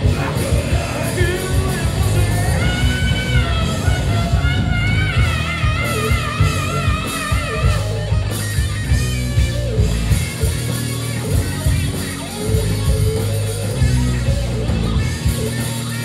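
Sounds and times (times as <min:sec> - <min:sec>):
live hard rock band playing: 0:00.0 - 0:16.0.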